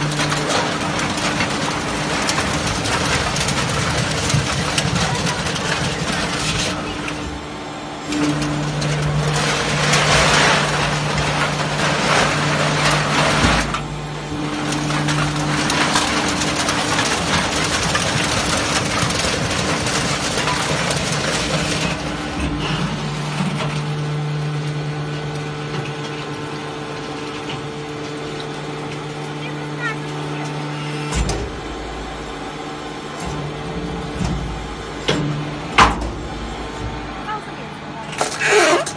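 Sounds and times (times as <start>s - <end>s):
motor hum: 0.0s - 38.9s.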